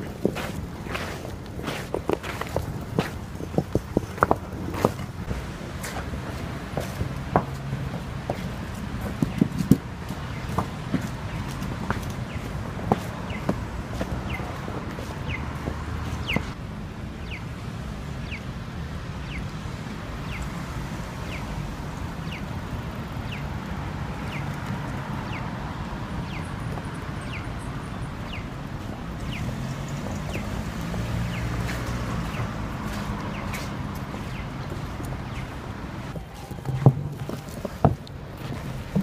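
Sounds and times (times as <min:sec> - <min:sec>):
passing traffic: 0:00.0 - 0:39.0.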